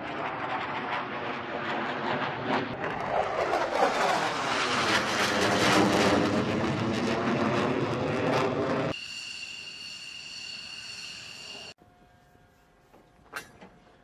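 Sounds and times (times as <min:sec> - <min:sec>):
fighter jets passing overhead: 0:00.0 - 0:11.8.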